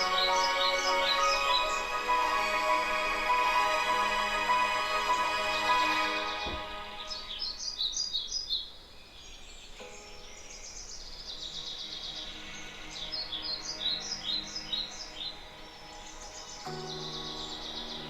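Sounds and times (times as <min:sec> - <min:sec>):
faint background music: 0:00.0 - 0:07.9, 0:09.6 - 0:18.0
birds chirping: 0:00.0 - 0:18.0.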